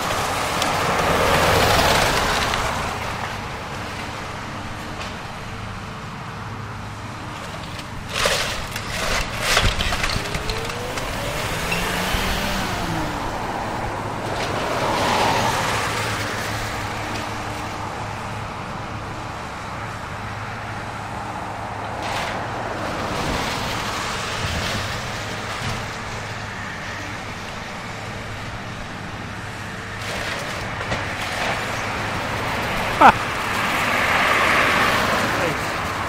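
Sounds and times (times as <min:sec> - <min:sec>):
excavator engine rumble: 0:00.0 - 0:36.0
road traffic noise: 0:00.0 - 0:36.0.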